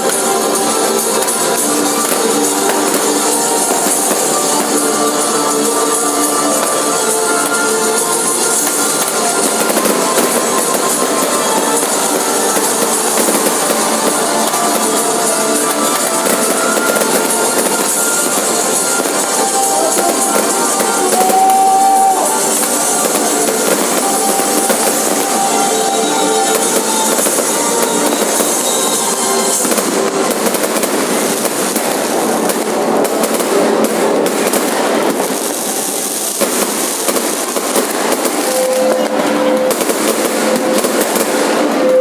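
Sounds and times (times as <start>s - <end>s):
fireworks crackling and popping: 0.0s - 42.0s
music playing: 0.0s - 42.0s.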